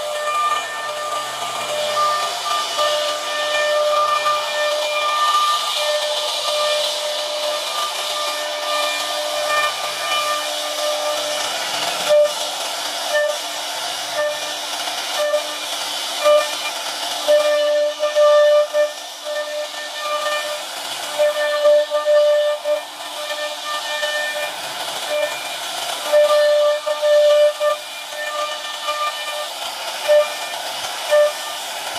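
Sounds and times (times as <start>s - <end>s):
cnc router spindle whine: 0.0s - 31.6s
wood cutting hiss: 0.0s - 31.9s.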